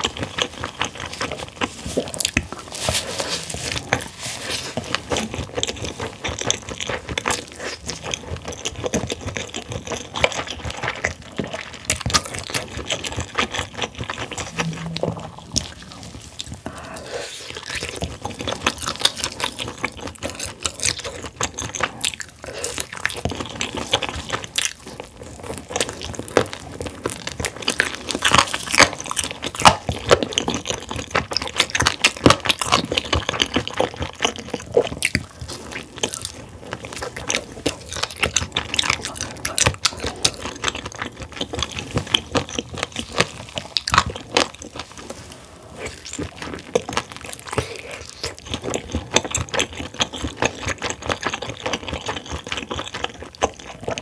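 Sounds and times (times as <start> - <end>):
chewing and crunching chicken wing: 0.0 - 54.0.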